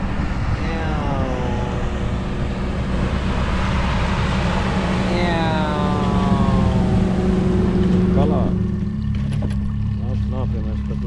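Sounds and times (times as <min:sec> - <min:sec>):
wind: 0:00.0 - 0:11.0
outboard motor running: 0:00.6 - 0:11.0.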